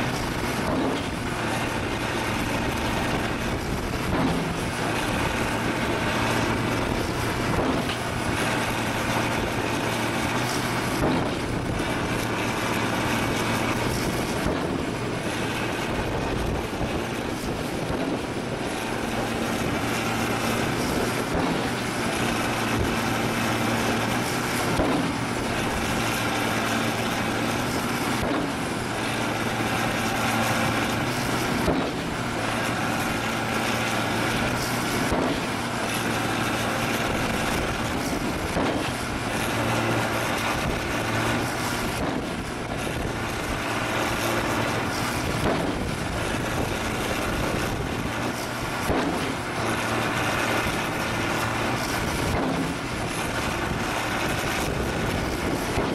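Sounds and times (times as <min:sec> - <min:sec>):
pavement breaker engine running: 0:00.0 - 0:55.9.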